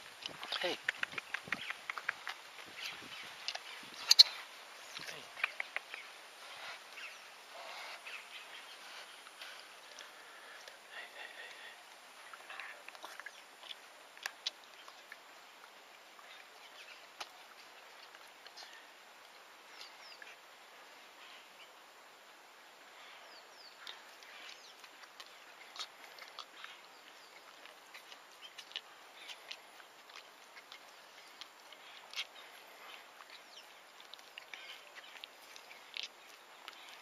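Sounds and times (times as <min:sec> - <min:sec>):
faint bird chirping: 0:00.5 - 0:15.4, 0:19.6 - 0:21.9, 0:22.8 - 0:37.0.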